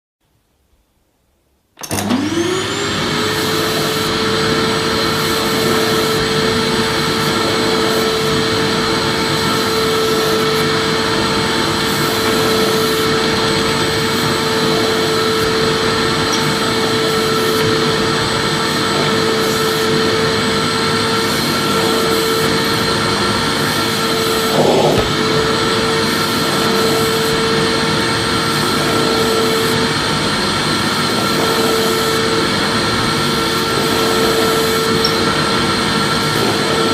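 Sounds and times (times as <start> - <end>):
vacuum cleaner running: 1.8 - 36.9.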